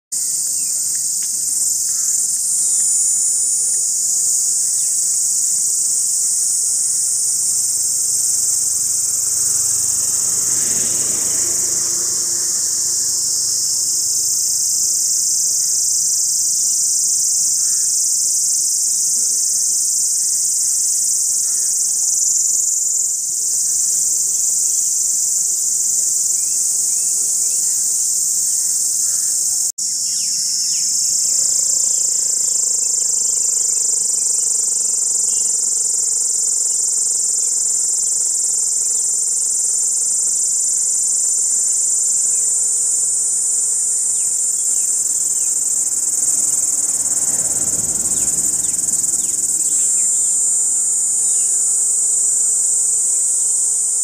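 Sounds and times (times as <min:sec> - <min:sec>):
cicada buzzing: 0:00.1 - 0:54.0.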